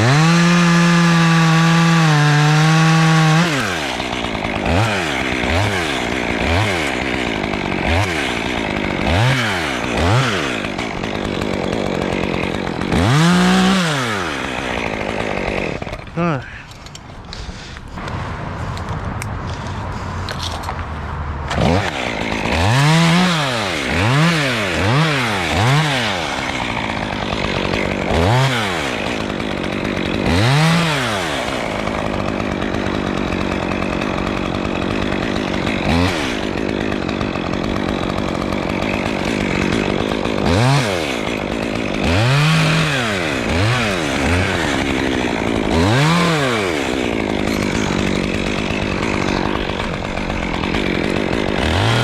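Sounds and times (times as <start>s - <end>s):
chainsaw revving: 0.0s - 18.8s, 19.5s - 52.0s.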